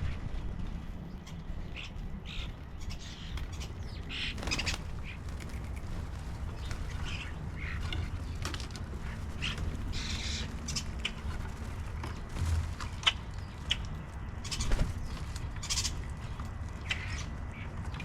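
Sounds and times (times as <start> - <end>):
steady low rumble: 0.0 - 18.0
wild birds calling harshly: 0.9 - 16.1.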